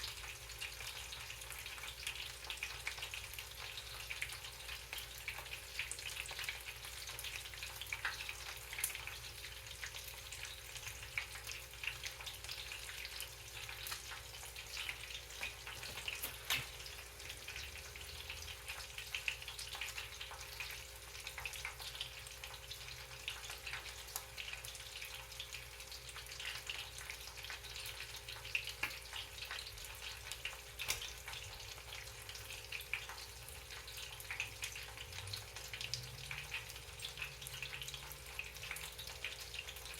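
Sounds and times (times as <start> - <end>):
chicken frying in oil: 0.0 - 39.9.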